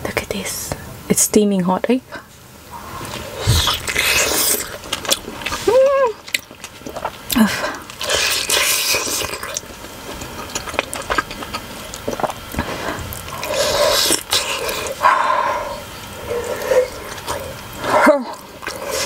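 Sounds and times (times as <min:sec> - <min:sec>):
wet chewing and slurping: 0:02.8 - 0:19.0
biting into soft dumpling: 0:03.0 - 0:19.0.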